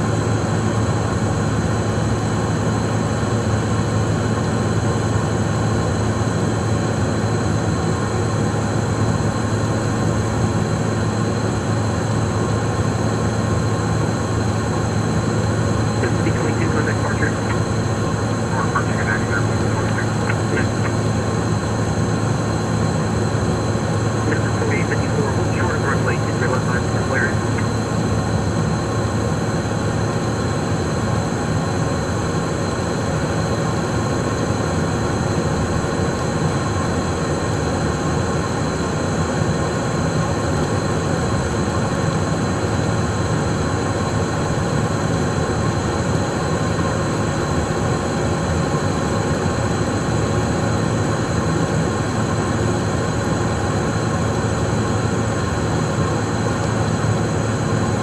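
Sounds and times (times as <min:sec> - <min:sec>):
jet engine cockpit hum: 0:00.0 - 0:58.0.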